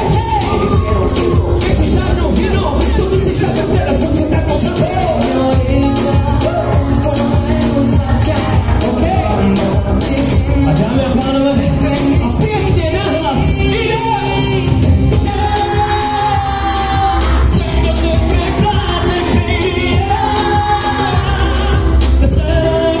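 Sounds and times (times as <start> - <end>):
backing track with heavy bass beat: 0.0 - 23.0
man singing into a microphone: 0.0 - 23.0.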